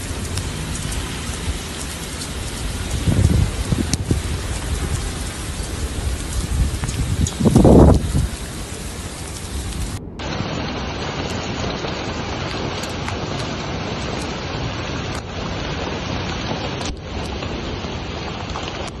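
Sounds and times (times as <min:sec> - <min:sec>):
floodwater pouring down street: 0:00.0 - 0:19.0
heavy rain: 0:00.0 - 0:19.0.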